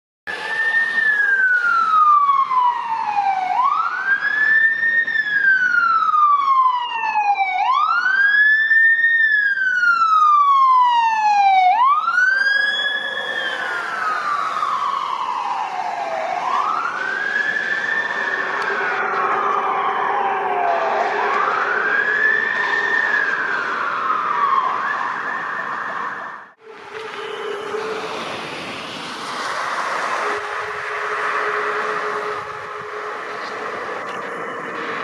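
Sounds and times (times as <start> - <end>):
ambulance siren wailing: 0.3 - 35.0.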